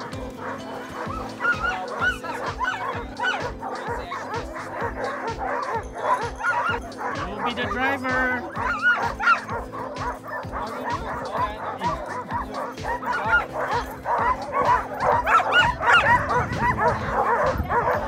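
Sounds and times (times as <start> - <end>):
dogs barking and yipping: 0.0 - 18.0.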